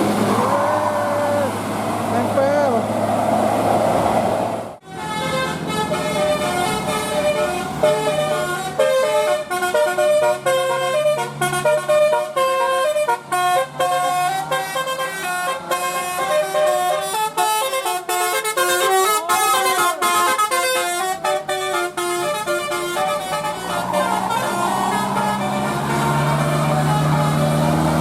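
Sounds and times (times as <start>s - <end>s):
bus musical horn playing a tune: 4.8s - 28.0s.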